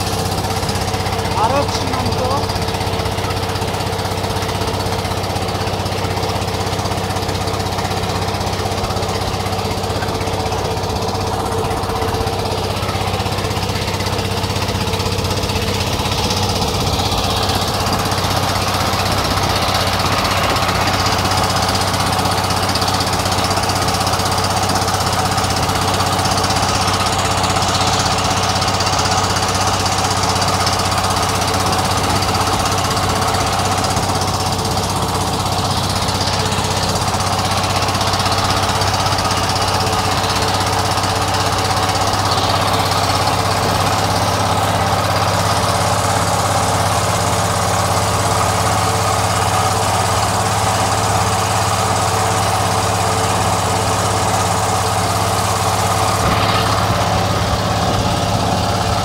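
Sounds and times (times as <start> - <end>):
small boat engine running: 0.0 - 59.0.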